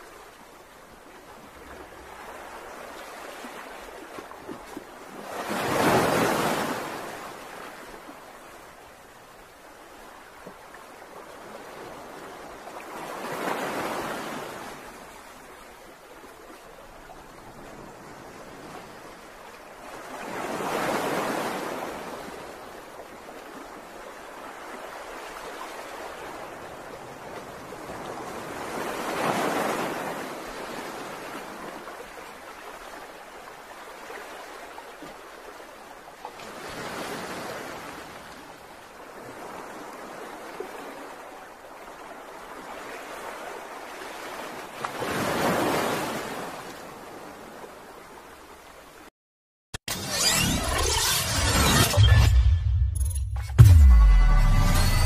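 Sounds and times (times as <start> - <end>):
ocean waves breaking: 0.0 - 49.1.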